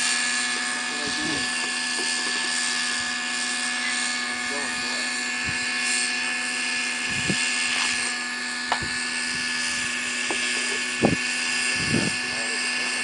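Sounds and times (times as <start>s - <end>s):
model helicopter buzzing drone: 0.0s - 13.0s.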